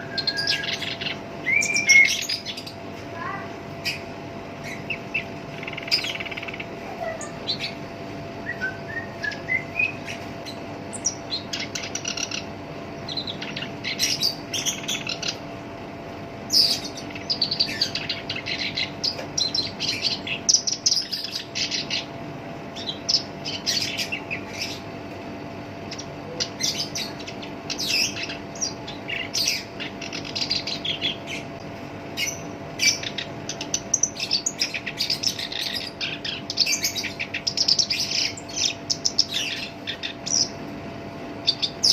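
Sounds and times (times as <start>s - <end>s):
bird harsh chattering song: 0.0s - 15.6s, 16.5s - 25.0s, 25.8s - 40.6s, 41.4s - 41.9s
faint steady hum: 0.0s - 41.9s.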